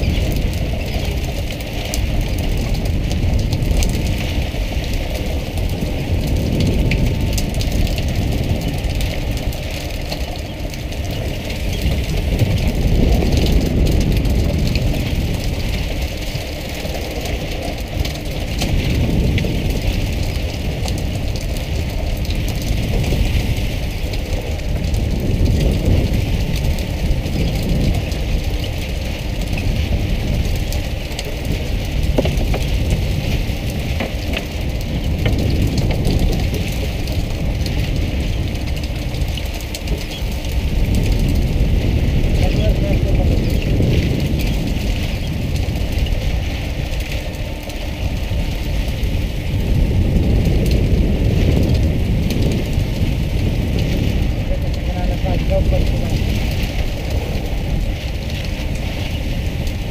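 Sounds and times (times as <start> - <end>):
boat engine running: 0.0 - 59.9
water splashing along hull: 0.0 - 59.9.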